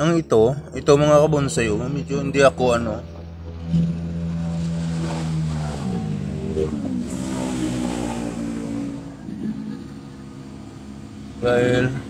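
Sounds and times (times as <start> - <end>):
vehicle engine speeding up: 0.0 - 12.0.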